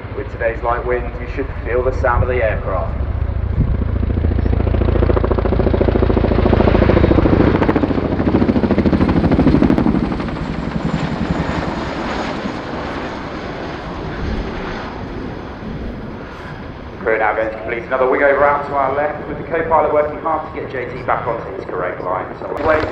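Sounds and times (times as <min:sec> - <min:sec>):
helicopter rotor blade slap: 0:00.0 - 0:22.9.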